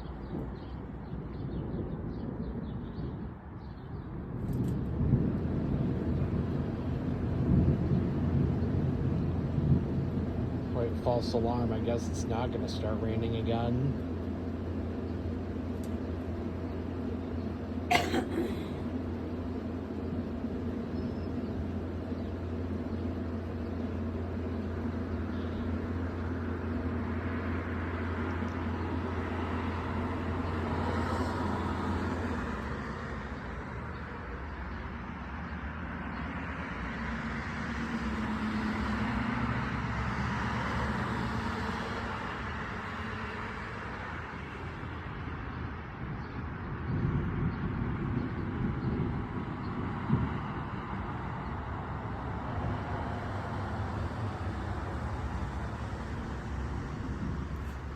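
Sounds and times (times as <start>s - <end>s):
road traffic passing: 0.0s - 57.9s.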